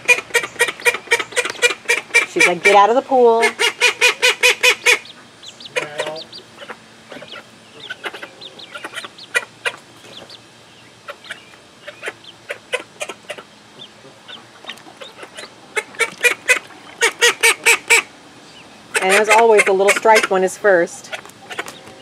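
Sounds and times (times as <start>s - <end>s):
duck quacking: 0.0s - 10.4s, 11.0s - 18.1s, 18.9s - 20.5s
ducklings peeping: 0.0s - 22.0s.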